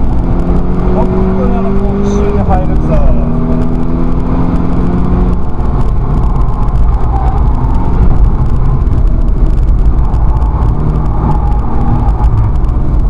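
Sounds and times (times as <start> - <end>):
in-cabin engine and road noise: 0.0 - 13.0.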